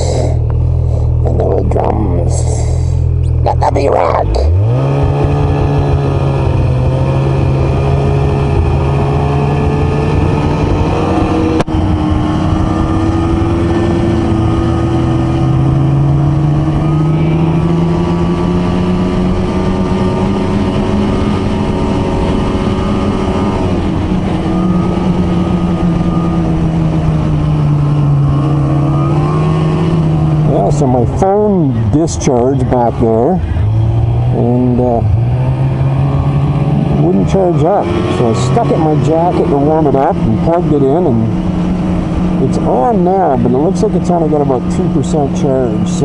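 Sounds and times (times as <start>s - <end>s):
snowmobile engine running: 0.0s - 46.0s.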